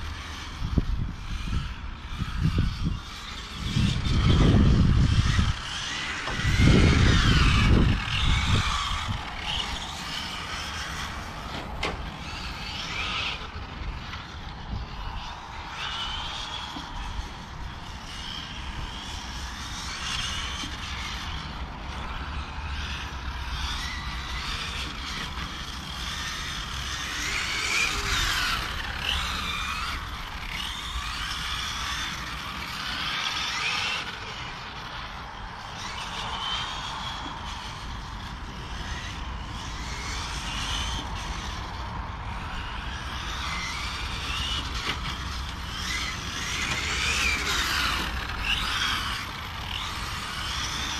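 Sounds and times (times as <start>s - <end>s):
rc car electric motor whining: 0.0s - 50.9s.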